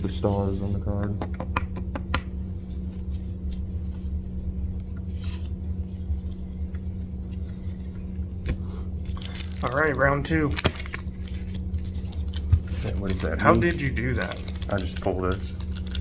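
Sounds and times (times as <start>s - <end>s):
constant hum: 0.0s - 16.0s
low background rumble: 0.0s - 16.0s.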